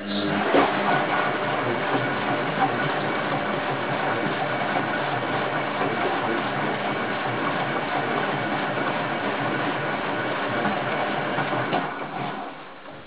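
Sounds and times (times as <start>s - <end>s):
washing machine drum turning: 0.0s - 13.0s.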